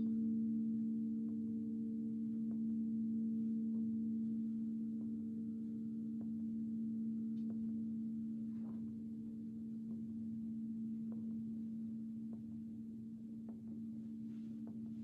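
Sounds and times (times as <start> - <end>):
singing bowl ringing: 0.0 - 12.3.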